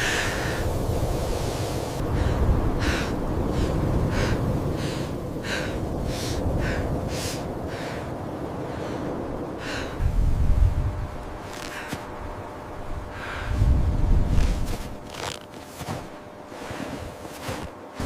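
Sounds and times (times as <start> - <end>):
low wind rumble: 0.0 - 18.0.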